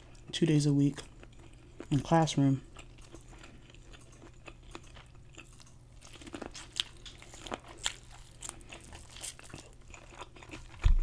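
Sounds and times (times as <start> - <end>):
crunchy chewing of corn: 0.1 - 11.0.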